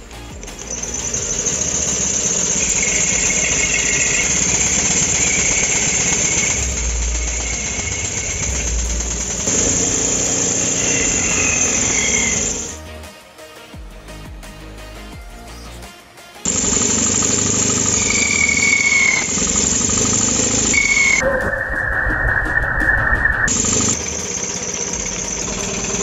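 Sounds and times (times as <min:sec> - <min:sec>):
circular saw cutting wood: 0:00.0 - 0:12.8, 0:16.5 - 0:26.0.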